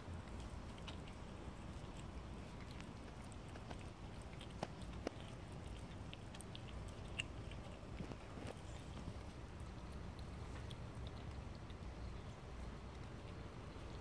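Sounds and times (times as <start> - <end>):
cat chewing and lapping: 0.0 - 14.0.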